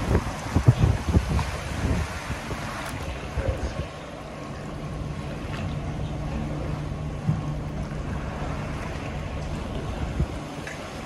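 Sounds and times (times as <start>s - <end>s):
wind buffeting microphone: 0.0s - 4.2s, 5.2s - 11.0s
pool water sloshing: 0.0s - 11.0s
steady low hum: 0.0s - 11.0s.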